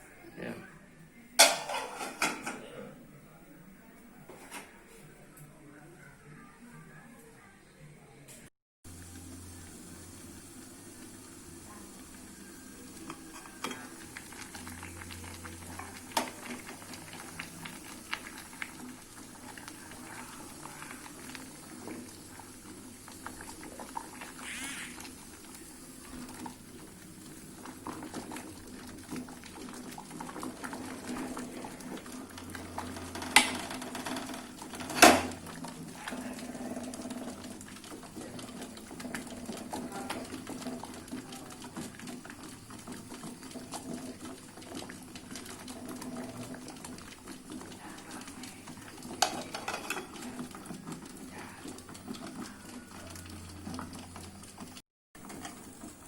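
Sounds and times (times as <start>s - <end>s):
pot of leaves boiling: 8.9s - 56.0s.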